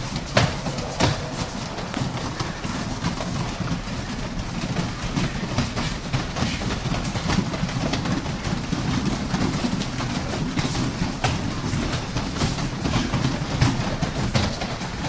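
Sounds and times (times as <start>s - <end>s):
hands and feet thumping on mats: 0.0s - 15.0s.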